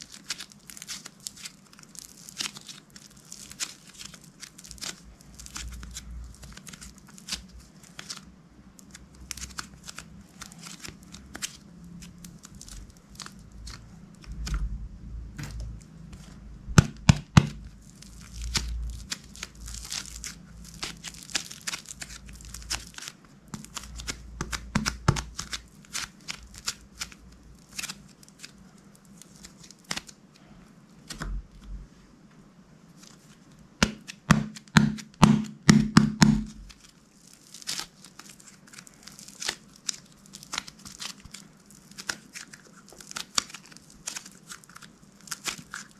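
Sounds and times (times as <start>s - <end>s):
slime clicking and crackling: 0.0s - 14.7s, 15.3s - 30.3s, 33.0s - 45.9s.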